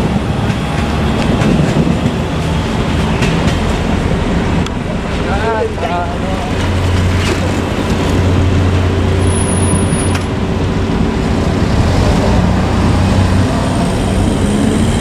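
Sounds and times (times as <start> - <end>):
diesel railcar engine droning: 0.0 - 15.0.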